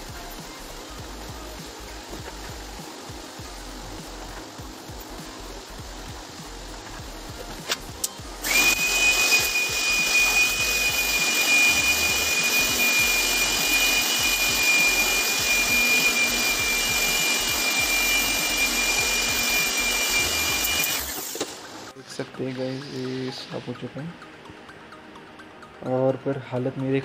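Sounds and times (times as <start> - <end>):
electric air blower whining: 0.0 - 24.2.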